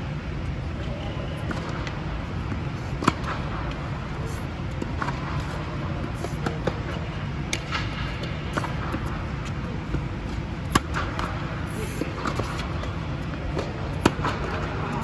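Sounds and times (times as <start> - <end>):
ball bouncing on hard court: 1.4 - 3.8, 4.7 - 14.8
rackets striking tennis ball: 1.4 - 15.0.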